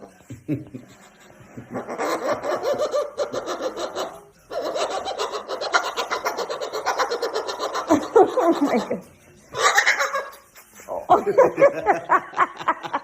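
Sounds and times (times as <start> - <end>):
people laughing hard: 0.3 - 9.0, 11.1 - 13.0.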